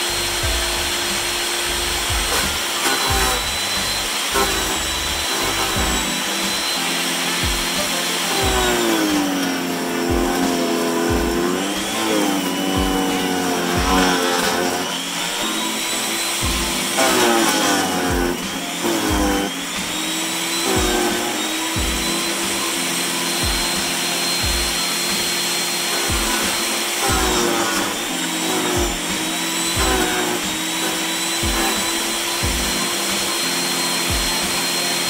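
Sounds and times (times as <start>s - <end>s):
chipper-shredder motor whine: 0.0s - 35.0s.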